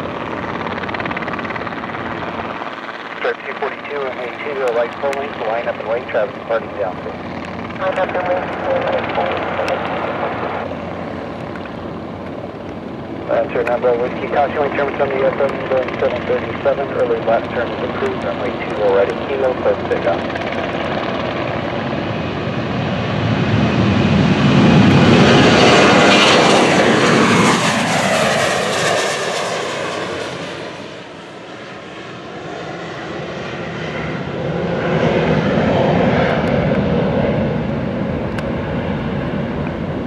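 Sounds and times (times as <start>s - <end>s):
jet airliner taking off: 0.0s - 40.0s.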